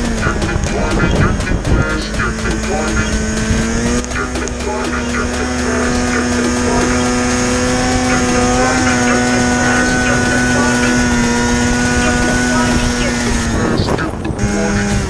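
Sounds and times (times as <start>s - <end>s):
snowmobile engine high revs: 0.0s - 15.0s.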